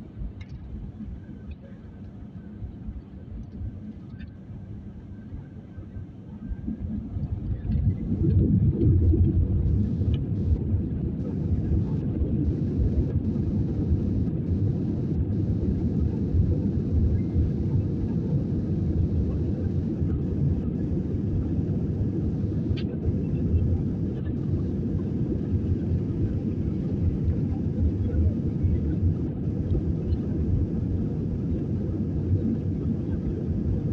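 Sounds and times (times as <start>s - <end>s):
airliner rumble: 0.0s - 33.9s.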